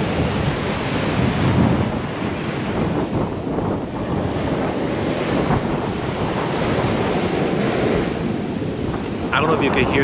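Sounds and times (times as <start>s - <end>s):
sea waves washing onto beach: 0.0s - 10.0s
wind buffeting microphone: 0.0s - 10.0s.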